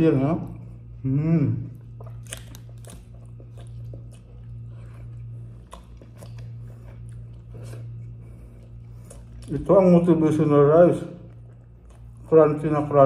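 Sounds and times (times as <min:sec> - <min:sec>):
steady low hum: 0:00.0 - 0:13.0
person chewing crunchy rice: 0:01.7 - 0:13.0.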